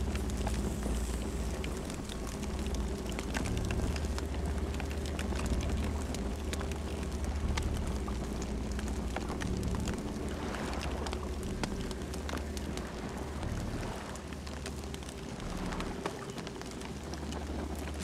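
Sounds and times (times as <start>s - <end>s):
burning wood crackling: 0.0s - 18.0s
low rumble of flames: 0.0s - 18.0s.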